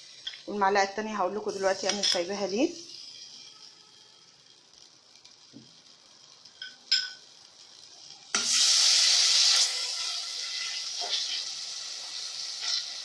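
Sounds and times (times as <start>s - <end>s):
butter sizzling in hot pot: 0.0s - 13.0s.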